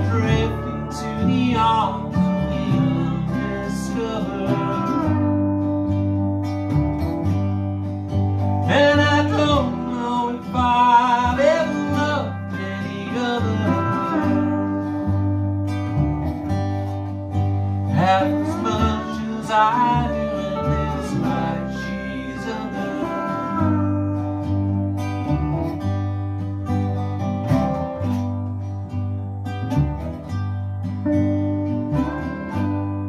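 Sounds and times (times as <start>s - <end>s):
baritone ukulele: 0.0s - 33.0s
bowed cello bass notes: 0.0s - 33.0s
pedal steel guitar: 0.0s - 33.0s
resonator guitar: 0.0s - 33.0s.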